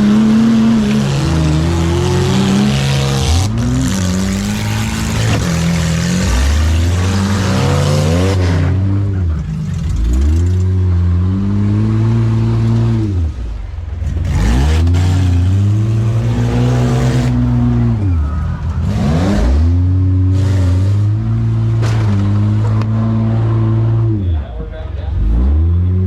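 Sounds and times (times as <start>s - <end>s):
van engine revving: 0.0s - 26.0s.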